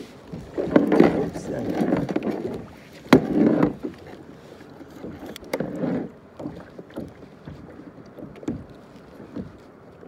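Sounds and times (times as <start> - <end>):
gear knocking on plastic kayak: 0.3 - 4.1, 4.9 - 10.0.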